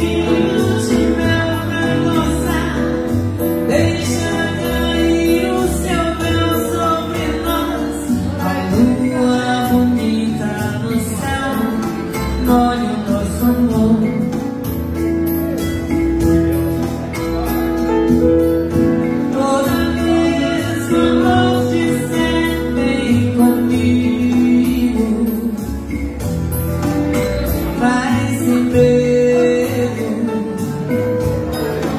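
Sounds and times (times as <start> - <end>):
person singing: 0.0 - 14.8, 18.7 - 31.9
backing music with bass and beat: 0.0 - 31.9.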